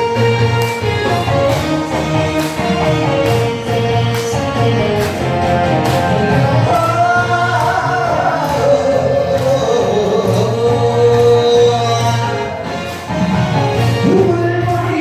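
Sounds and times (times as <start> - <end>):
trot music with drums and bass: 0.0 - 15.0.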